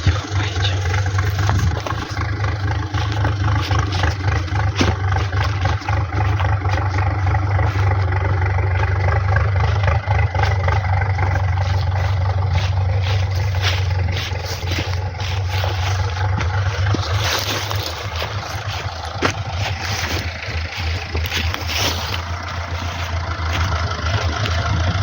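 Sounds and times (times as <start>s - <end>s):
engine clattering knocks: 0.0s - 25.0s
tractor diesel engine droning: 0.0s - 25.0s.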